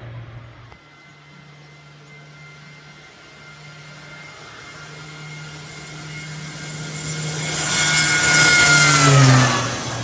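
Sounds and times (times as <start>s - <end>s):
turboprop airplane taking off: 0.0s - 10.0s.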